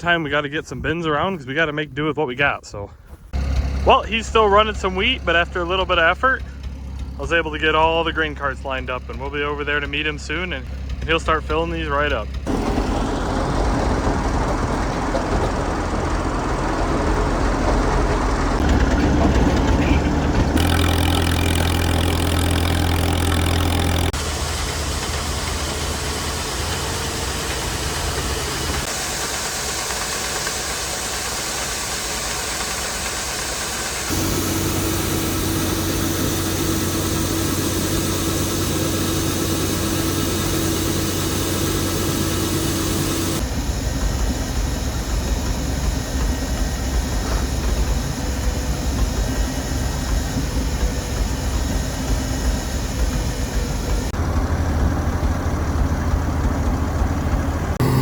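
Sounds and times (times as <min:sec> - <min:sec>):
farm machinery engines running: 0:03.0 - 0:58.0.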